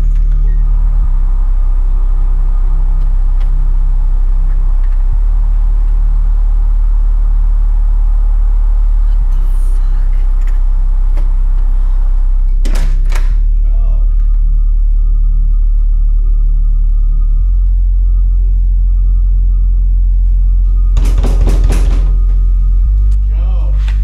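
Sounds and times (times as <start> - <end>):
deep low rumbling drone: 0.0 - 24.0.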